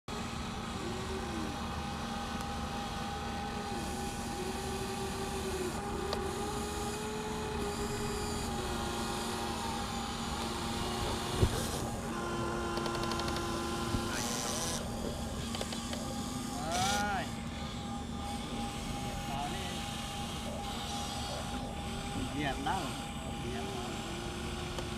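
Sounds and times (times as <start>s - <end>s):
electric motors whining: 0.1s - 24.9s.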